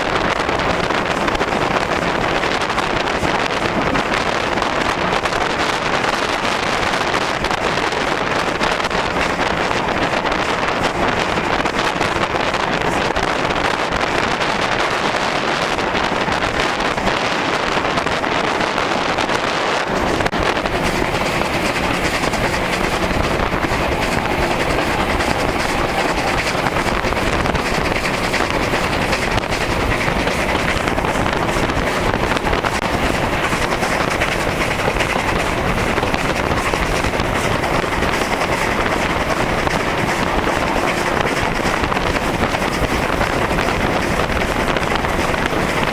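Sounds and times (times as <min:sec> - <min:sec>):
steam locomotive running: 0:00.0 - 0:45.9
wind on microphone: 0:00.0 - 0:45.9.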